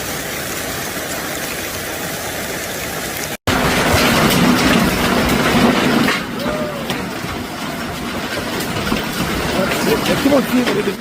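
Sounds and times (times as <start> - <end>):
hail and heavy rain: 0.0 - 11.0.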